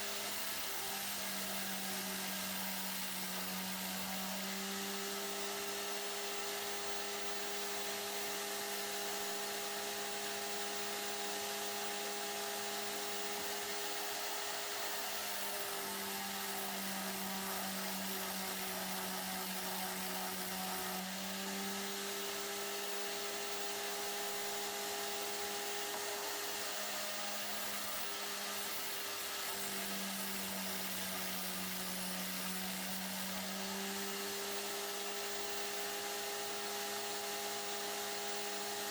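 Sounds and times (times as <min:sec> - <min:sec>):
electric power tool motor humming: 0:00.0 - 0:38.9.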